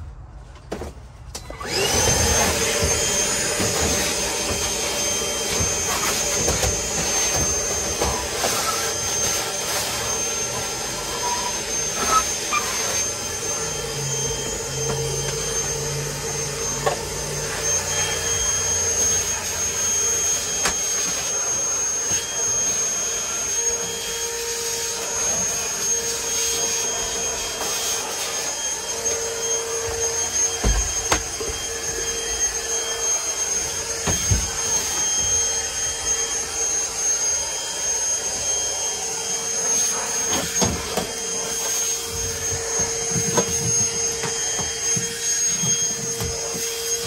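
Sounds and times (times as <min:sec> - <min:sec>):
shop vac whining: 0:00.0 - 0:47.0.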